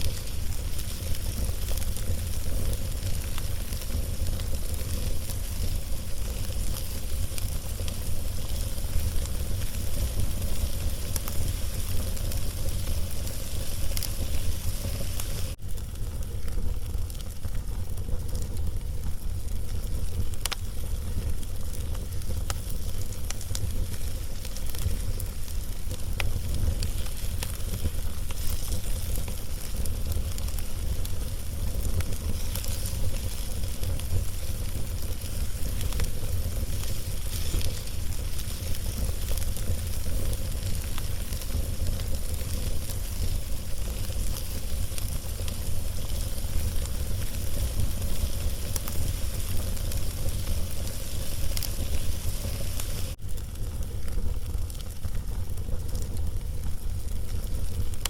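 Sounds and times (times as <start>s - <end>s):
log fire crackling and popping: 0.0s - 58.0s.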